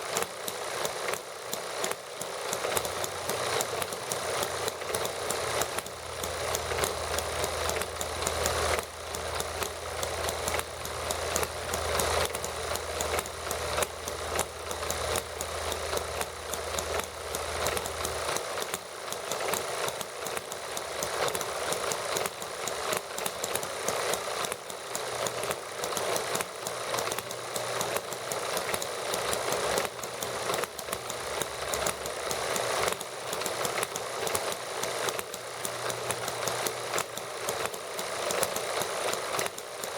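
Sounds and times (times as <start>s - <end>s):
small model engines running: 0.0s - 39.9s.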